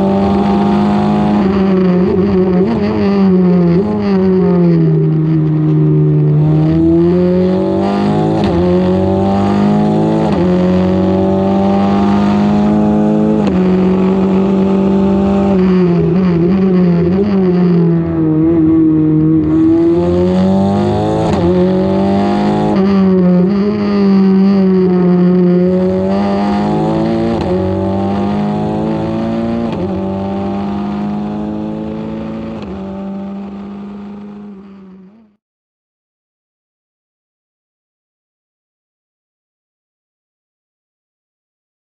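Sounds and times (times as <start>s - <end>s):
race car engine revving: 0.0s - 35.2s.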